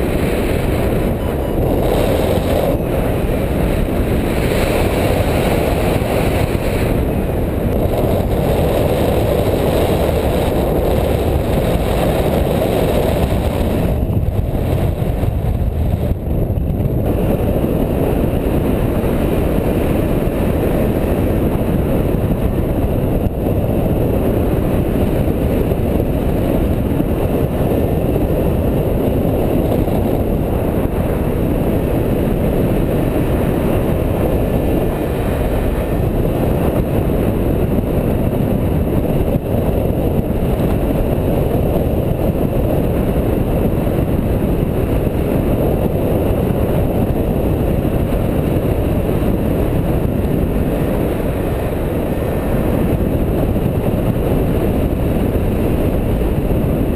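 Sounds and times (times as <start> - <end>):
wind rushing on microphone: 0.0 - 56.9.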